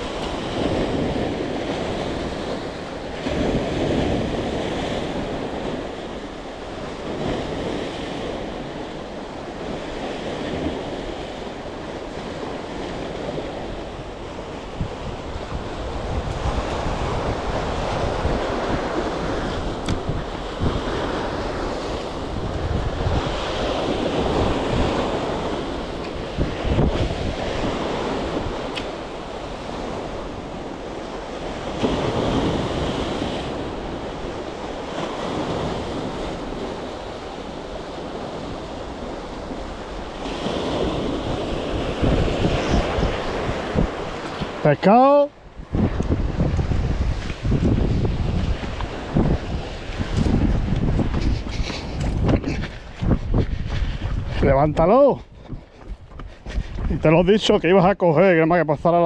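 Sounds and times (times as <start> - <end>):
wind buffeting microphone: 0.0 - 58.0
sea waves washing in: 0.0 - 59.0.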